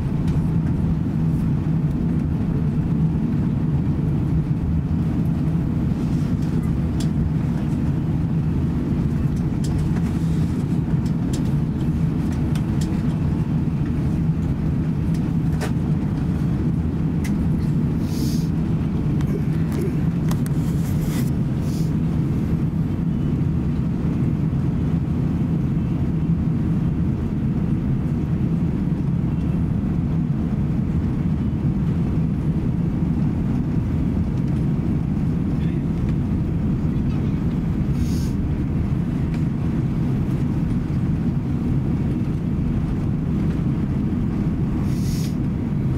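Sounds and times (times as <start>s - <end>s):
airframe rolling on taxiway: 0.0s - 45.9s
jet engine low hum: 0.0s - 45.9s.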